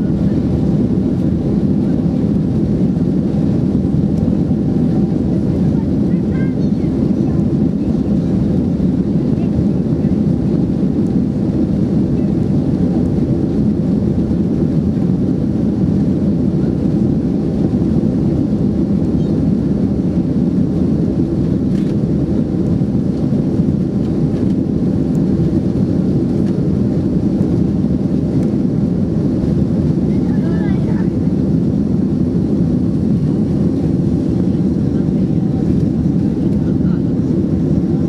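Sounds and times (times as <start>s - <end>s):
jet engines at takeoff thrust: 0.0s - 38.0s.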